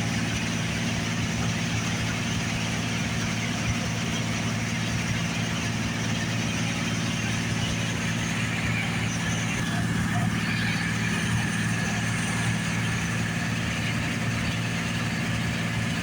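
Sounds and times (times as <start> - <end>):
combine harvester engine hum: 0.0 - 16.0.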